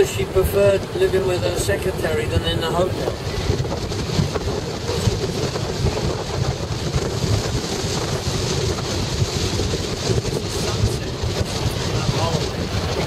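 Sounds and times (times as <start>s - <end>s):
car road and engine rumble: 0.0s - 13.0s
wind buffeting microphone: 0.0s - 13.0s.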